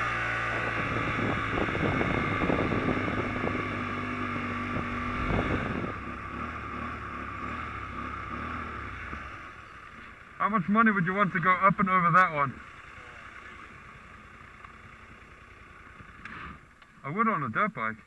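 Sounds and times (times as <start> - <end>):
small motorcycle engine running: 0.0 - 16.8.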